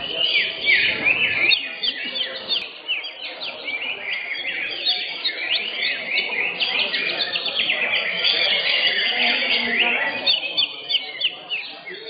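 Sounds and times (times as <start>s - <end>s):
birds chirping and whistling: 0.0s - 12.0s
low murmur: 0.0s - 12.0s.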